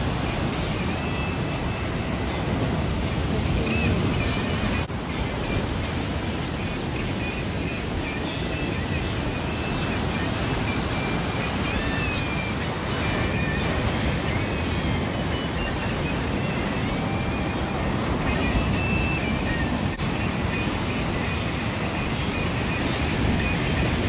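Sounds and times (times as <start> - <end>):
faint wavering high tones: 0.0 - 24.0
ocean surf breaking: 0.0 - 24.0.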